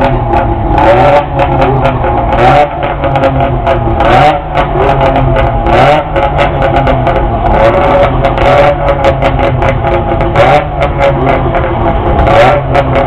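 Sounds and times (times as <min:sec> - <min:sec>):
engine crackles: 0:00.0 - 0:13.0
two-stroke engines revving: 0:00.0 - 0:13.0.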